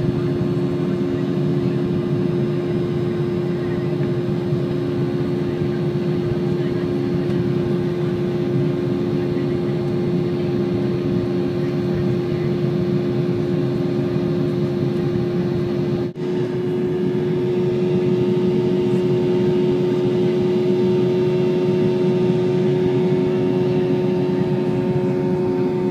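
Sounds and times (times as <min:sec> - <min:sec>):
jet engines droning in cabin: 0:00.0 - 0:25.9
steady cabin hum: 0:00.0 - 0:25.9.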